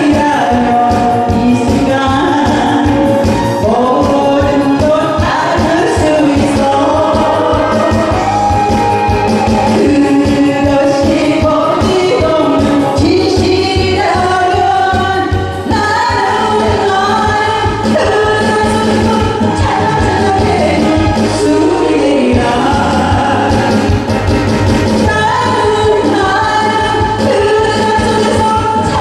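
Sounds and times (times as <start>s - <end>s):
person singing over backing track: 0.0s - 29.0s.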